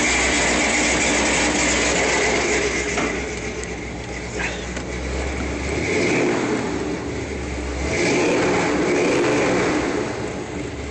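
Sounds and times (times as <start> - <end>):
vehicle engine revving: 0.0 - 10.9.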